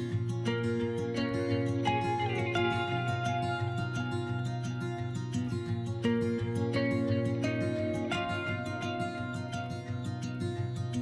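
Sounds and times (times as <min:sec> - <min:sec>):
plucked ringing music: 0:00.0 - 0:11.0.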